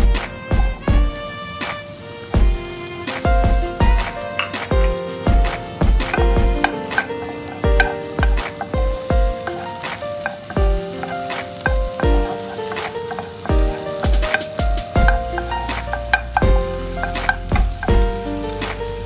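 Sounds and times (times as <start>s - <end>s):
music with kick-drum beat: 0.0s - 1.4s, 2.4s - 19.0s
vegetables sizzling in oil: 0.0s - 19.0s
wooden spoon stirring in pan: 2.3s - 19.0s.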